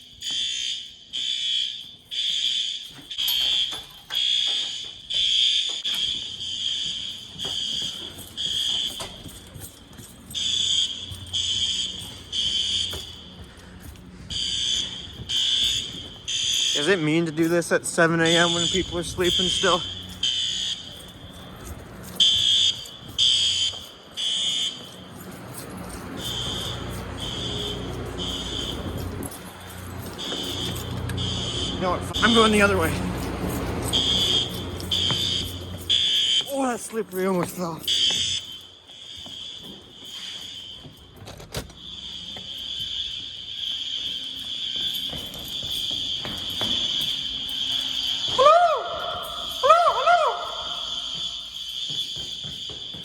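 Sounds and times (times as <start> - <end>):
fire alarm horn beeps: 0.0 - 53.0.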